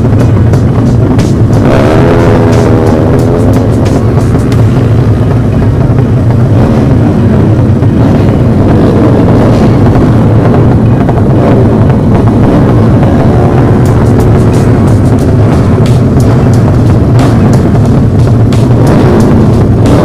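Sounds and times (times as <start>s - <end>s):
motorcycle engines idling and revving: 0.0s - 20.0s.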